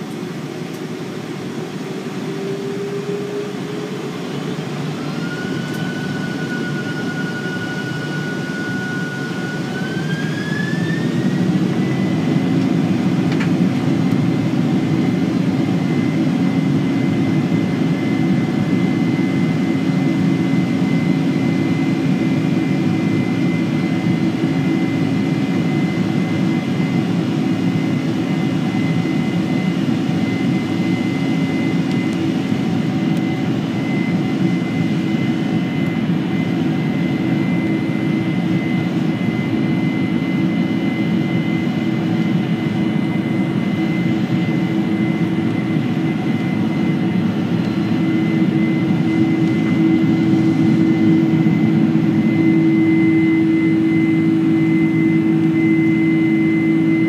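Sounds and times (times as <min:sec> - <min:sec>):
jet engines rumbling inside cabin: 0:00.0 - 0:57.0.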